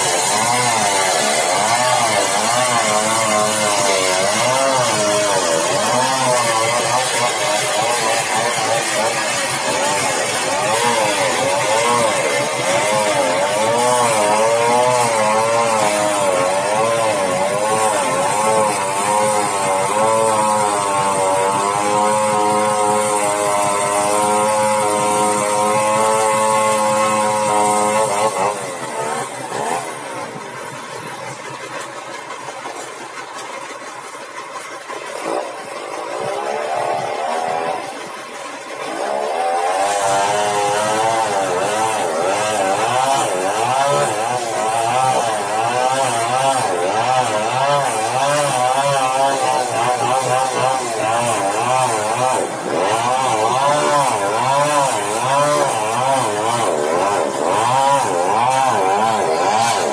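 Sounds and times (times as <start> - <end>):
band sawmill running: 0.0 - 59.9.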